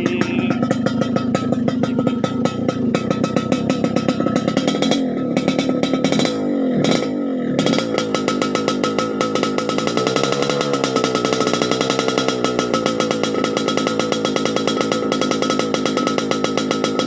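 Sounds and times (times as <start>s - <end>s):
two-stroke motorcycle engine revving: 0.0s - 17.0s.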